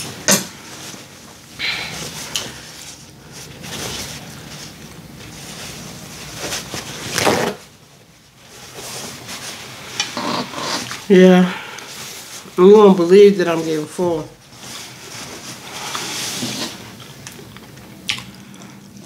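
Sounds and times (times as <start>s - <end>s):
paper towel rustling and crinkling: 0.0s - 19.0s.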